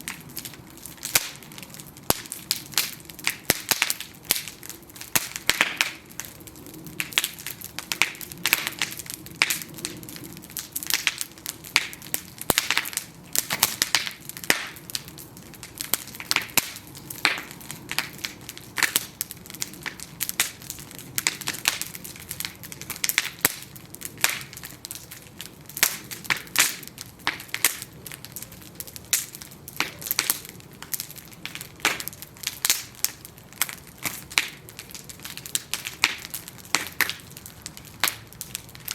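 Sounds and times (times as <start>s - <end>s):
bonfire crackling: 0.0s - 38.9s
low rumble of flame: 0.0s - 38.9s
sharp pops and snaps: 7.0s - 38.9s.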